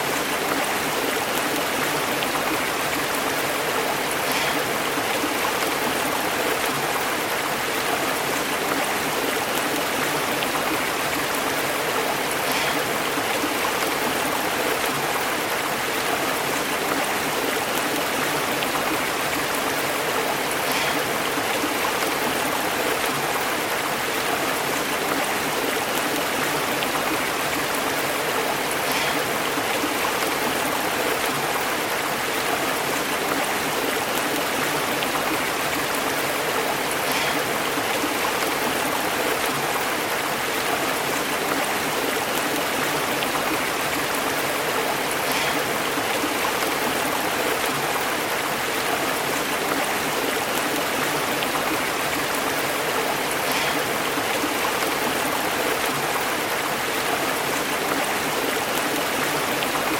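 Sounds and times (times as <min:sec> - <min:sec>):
stream flowing over rocks: 0:00.0 - 0:59.9
water splashes: 0:00.0 - 0:59.9.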